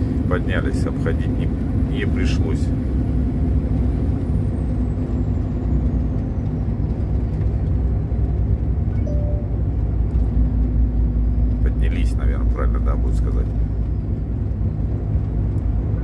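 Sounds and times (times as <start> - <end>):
road and tyre noise: 0.0 - 16.0
truck diesel engine running: 0.0 - 16.0.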